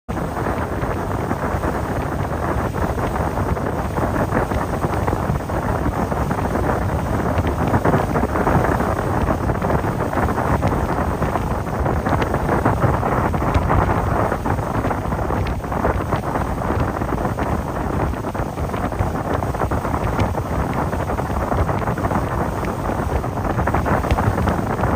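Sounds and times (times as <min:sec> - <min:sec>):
boat moving through water: 0:00.1 - 0:24.9
wind buffeting microphone: 0:00.1 - 0:24.9.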